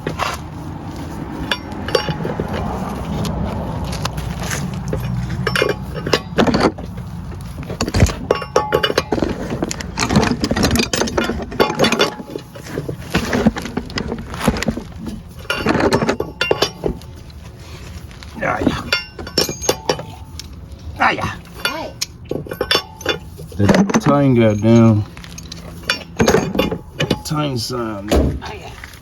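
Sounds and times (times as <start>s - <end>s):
metal tools clinking and clanking: 1.0s - 29.0s.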